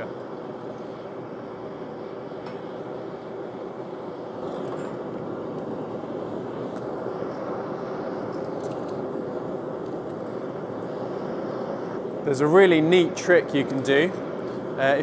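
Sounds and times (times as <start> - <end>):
gas forge burner rushing: 0.0 - 15.0.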